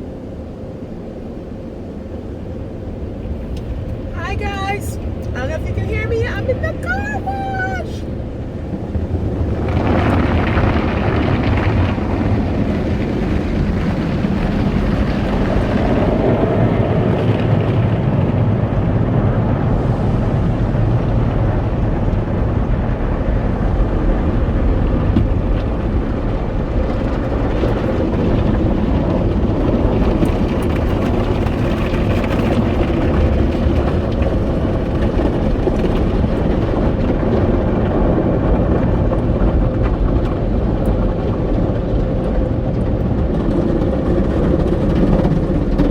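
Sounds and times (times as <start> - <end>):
car wash machinery and water: 0.0 - 45.9
low rumble: 0.0 - 45.9.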